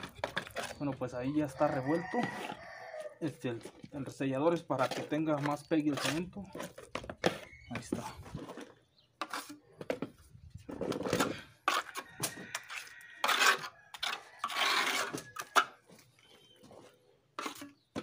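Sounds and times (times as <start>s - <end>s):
steel trowel scraping cement: 0.0s - 9.7s, 10.8s - 15.8s, 17.4s - 17.9s.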